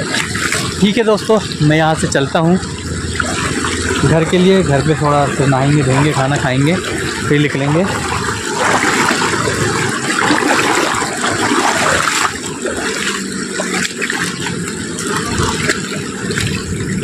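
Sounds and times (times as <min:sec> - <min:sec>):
river water splashing around wader: 0:00.0 - 0:17.0.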